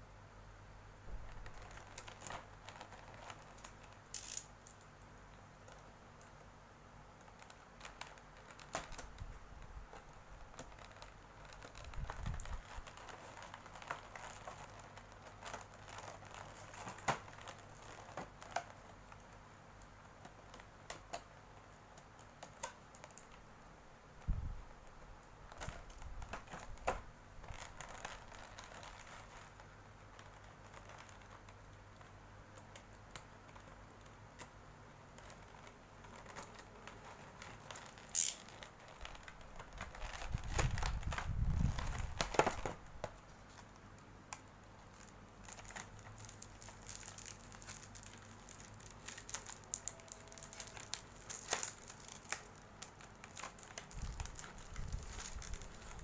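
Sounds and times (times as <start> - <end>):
plastic packaging crinkling: 1.2 - 6.5, 7.1 - 23.5, 24.1 - 56.0.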